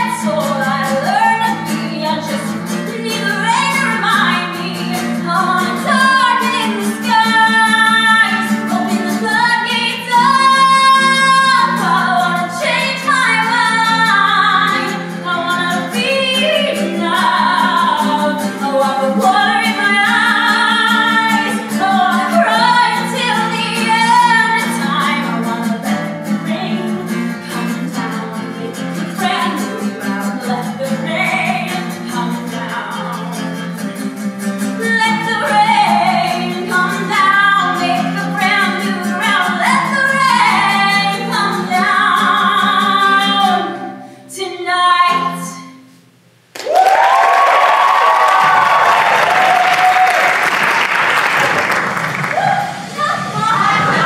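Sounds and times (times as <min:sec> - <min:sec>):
woman singing: 0:00.0 - 0:33.8, 0:34.7 - 0:45.8
acoustic guitar: 0:00.0 - 0:54.0.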